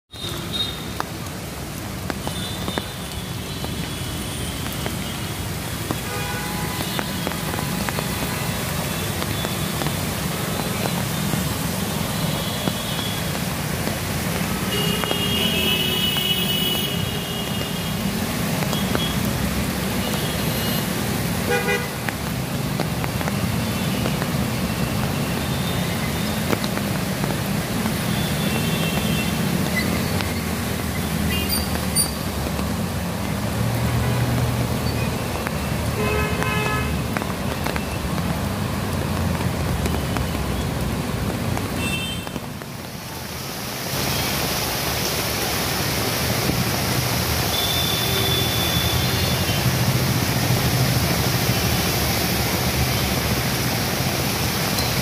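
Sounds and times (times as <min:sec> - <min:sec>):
traffic on wet streets: 0:00.0 - 0:55.0
heavy rain: 0:00.1 - 0:55.0.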